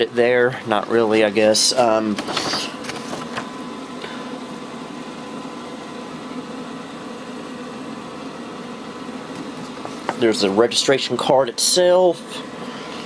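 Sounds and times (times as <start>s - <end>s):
room hum with hiss: 0.0s - 13.0s.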